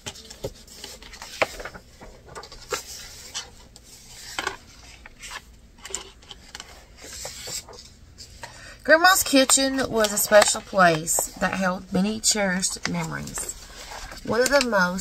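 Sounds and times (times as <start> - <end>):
paper pages rustling: 0.0 - 8.5, 9.2 - 15.0.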